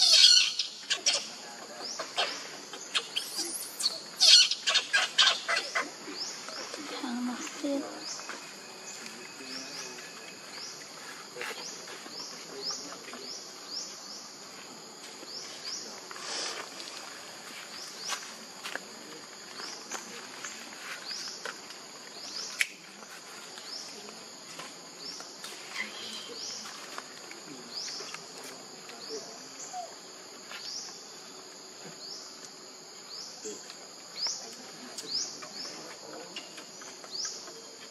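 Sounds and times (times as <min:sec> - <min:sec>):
insect chorus hissing and chirping: 0:00.0 - 0:37.9.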